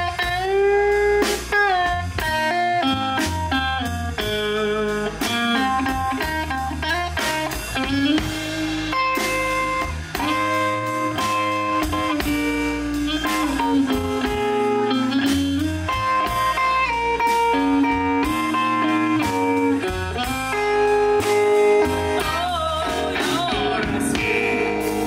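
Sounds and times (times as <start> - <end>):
bass guitar: 0.0 - 25.0
drum kit beat: 0.0 - 25.0
electric guitar solo: 0.0 - 25.0.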